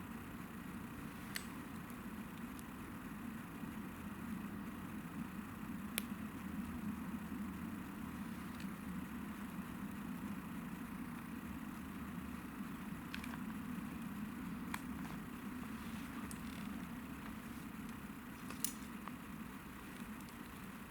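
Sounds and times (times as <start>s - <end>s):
campfire burning rumble: 0.0s - 20.9s.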